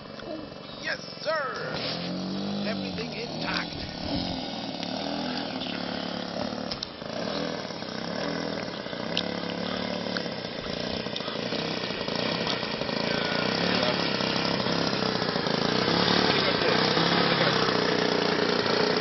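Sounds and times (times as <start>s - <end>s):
model aircraft engine running: 0.0s - 19.0s.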